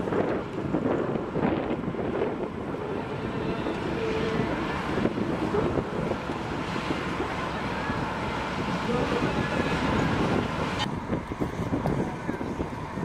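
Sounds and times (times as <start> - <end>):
tractor engine running: 0.0 - 13.0
wind buffeting microphone: 0.0 - 13.0.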